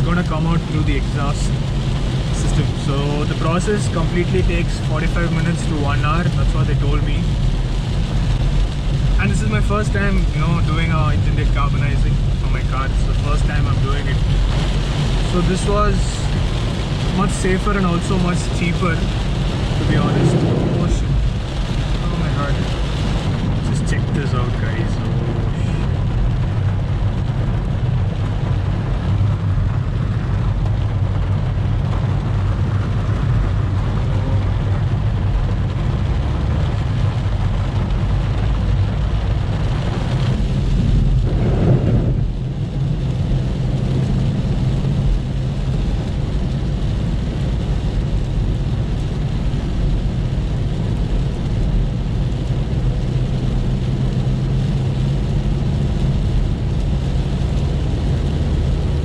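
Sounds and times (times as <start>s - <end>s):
car engine and tyres drone: 0.0s - 59.0s.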